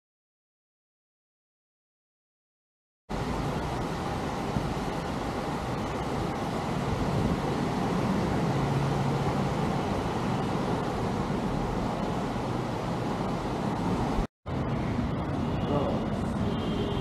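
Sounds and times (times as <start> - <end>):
distant road traffic rumble: 3.1 - 17.0.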